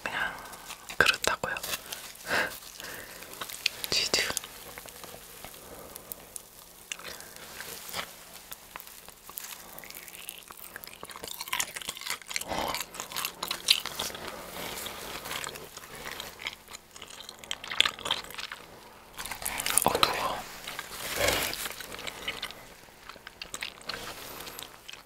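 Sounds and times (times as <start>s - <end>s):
close-up chewing and crunching: 0.0s - 25.0s.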